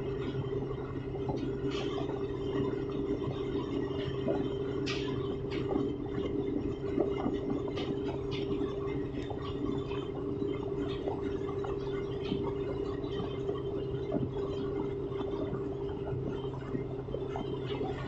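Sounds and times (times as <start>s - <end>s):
boat engine droning: 0.0s - 18.0s
water washing along hull: 0.0s - 18.0s.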